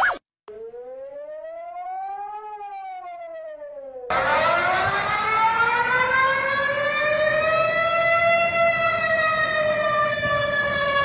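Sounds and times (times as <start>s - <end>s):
warning siren wailing: 0.0s - 11.0s.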